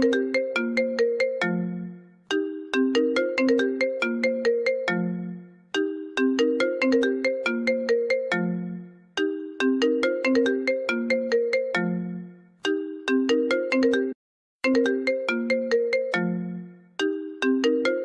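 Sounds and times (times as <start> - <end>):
phone ringtone melody: 0.0 - 18.0.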